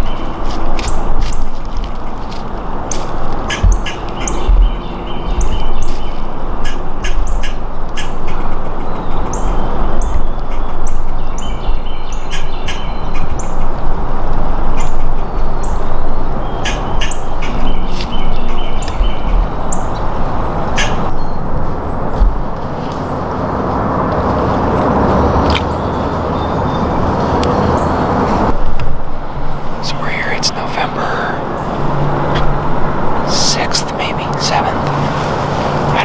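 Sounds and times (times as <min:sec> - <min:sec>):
birds chirping: 0:00.0 - 0:14.0, 0:14.7 - 0:28.2, 0:29.4 - 0:36.0
loud steady rushing noise: 0:00.0 - 0:36.0.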